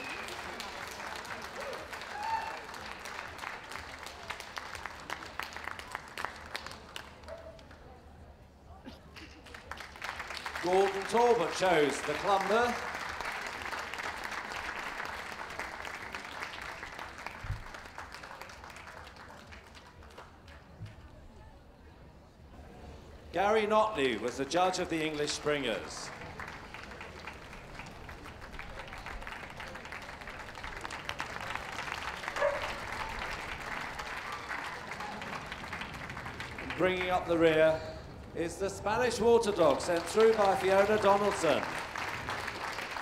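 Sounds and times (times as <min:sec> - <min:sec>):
crowd applauding: 0:00.0 - 0:07.9, 0:09.2 - 0:20.6, 0:23.8 - 0:38.3, 0:38.9 - 0:43.0.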